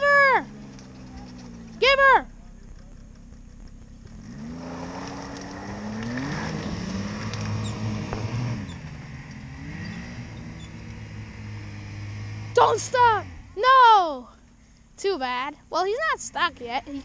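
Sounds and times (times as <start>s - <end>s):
snowmobile engine revving: 0.0s - 14.3s.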